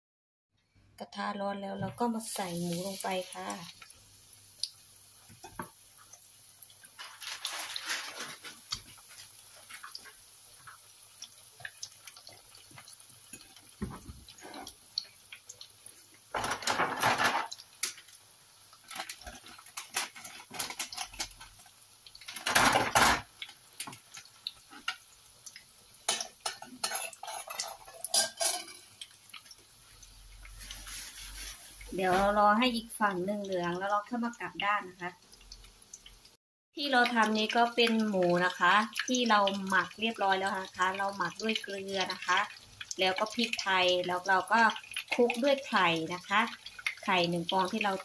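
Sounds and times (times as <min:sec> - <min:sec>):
cutlets sizzling in oil: 0:02.0 - 0:48.0.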